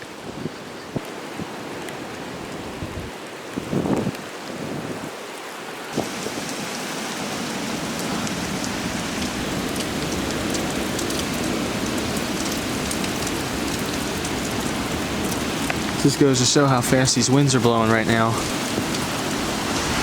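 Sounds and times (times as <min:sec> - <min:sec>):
raindrops ticking on microphone: 0:00.0 - 0:04.6, 0:05.9 - 0:20.0
heavy wind-driven rain: 0:00.0 - 0:20.0.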